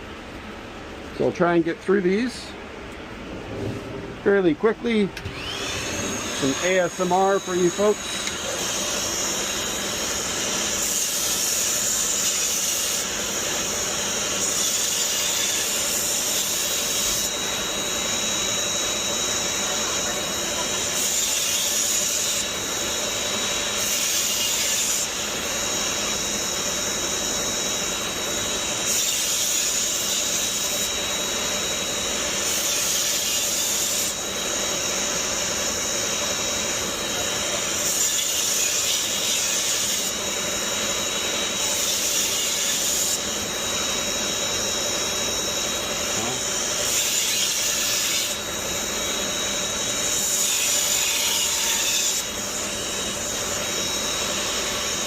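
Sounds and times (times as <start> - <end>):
blade hissing on abrasive: 4.2 - 55.0
knife sharpener whining: 5.2 - 55.0.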